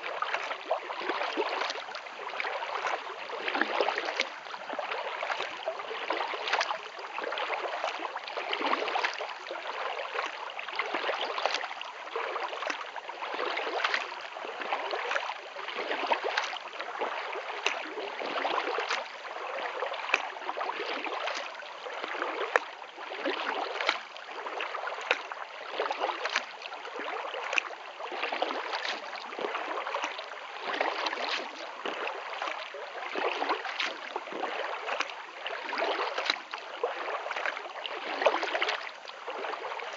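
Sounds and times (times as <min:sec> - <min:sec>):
kayak paddle strokes in water: 0:00.0 - 0:39.9
water trickling along hull: 0:00.0 - 0:39.9.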